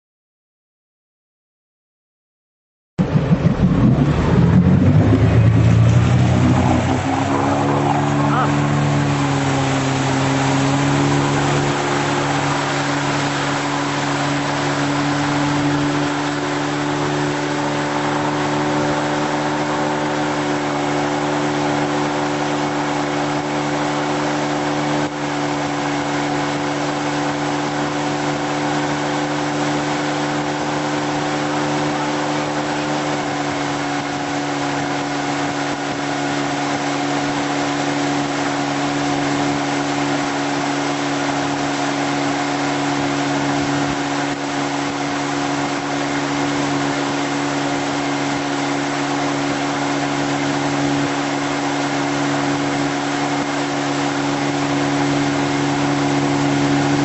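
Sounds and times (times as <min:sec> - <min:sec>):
motorboat engine drone: 0:03.0 - 0:57.0
wind: 0:03.0 - 0:57.0.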